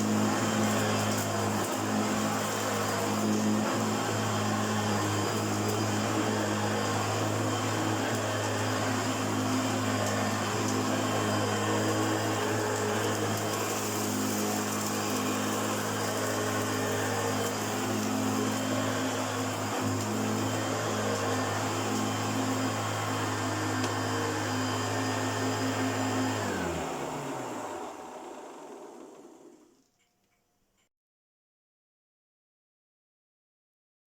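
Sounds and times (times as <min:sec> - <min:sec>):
upright vacuum cleaner running: 0:00.0 - 0:29.8.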